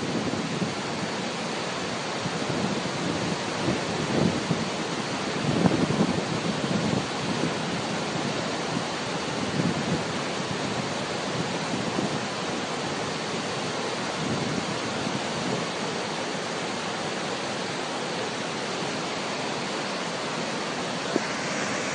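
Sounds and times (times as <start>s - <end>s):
waterfall rushing onto rocks: 0.0s - 21.9s.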